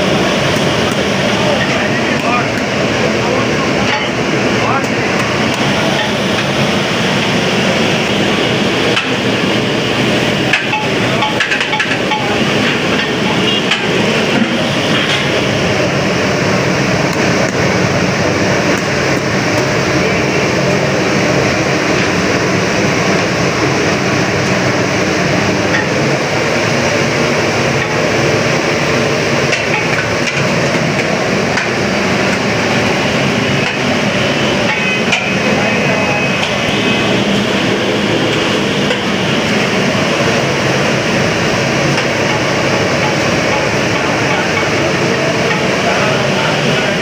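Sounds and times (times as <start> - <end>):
street traffic: 0.0 - 47.0.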